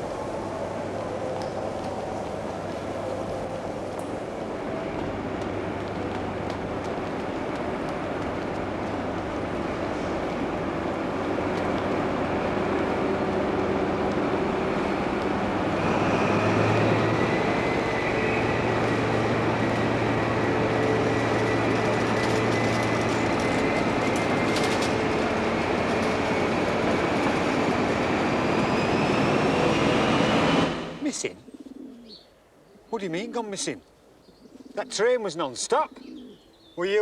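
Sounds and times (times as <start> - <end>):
train rumbling: 0.0 - 31.3.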